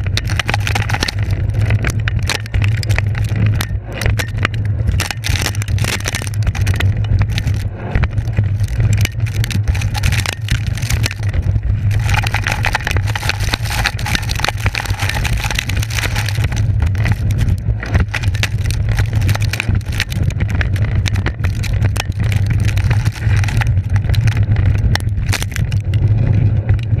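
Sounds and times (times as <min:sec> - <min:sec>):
board and trucks rattling: 0:00.0 - 0:27.0
tyres rumbling over ground: 0:00.0 - 0:27.0
wind rumble on microphone: 0:00.0 - 0:27.0.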